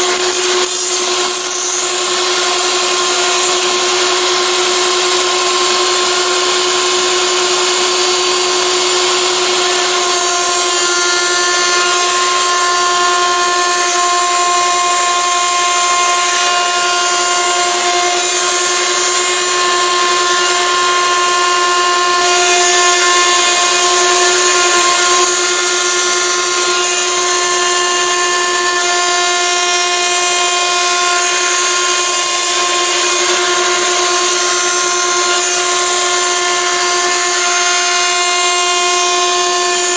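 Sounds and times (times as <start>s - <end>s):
router spindle whining: 0.0s - 39.9s
shop vacuum running: 0.0s - 39.9s.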